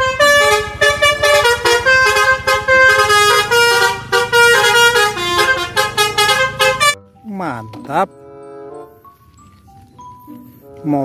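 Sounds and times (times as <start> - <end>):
multi-tone bus horns melody: 0.0 - 9.4
low engine rumble: 0.0 - 10.6.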